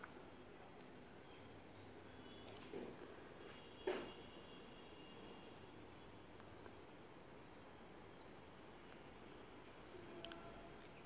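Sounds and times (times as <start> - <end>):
faint garden ambience: 0.0 - 11.0.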